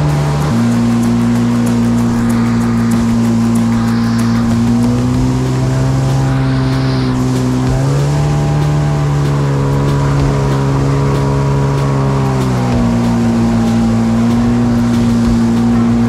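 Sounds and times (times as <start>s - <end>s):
jet ski engine at high revs: 0.0s - 16.0s
rushing water and spray: 0.0s - 16.0s.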